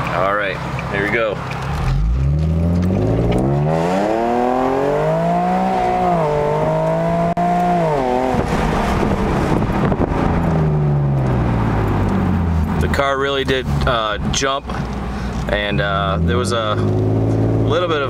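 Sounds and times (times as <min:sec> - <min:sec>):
car engine accelerating: 0:01.4 - 0:18.0.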